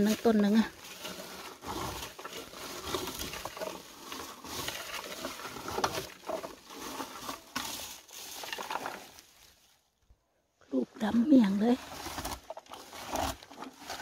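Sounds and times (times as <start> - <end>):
leaves and twigs rustling: 0.0 - 10.1, 11.0 - 14.0.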